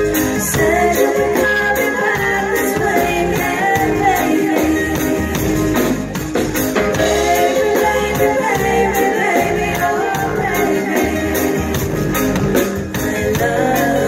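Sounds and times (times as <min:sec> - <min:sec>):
person singing: 0:00.0 - 0:06.1, 0:07.0 - 0:11.8, 0:12.8 - 0:14.0
reggae band playing: 0:00.0 - 0:14.0.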